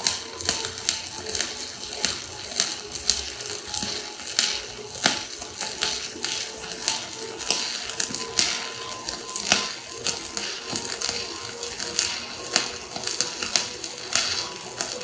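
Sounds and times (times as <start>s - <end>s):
welding arc crackling and popping: 0.0s - 15.0s.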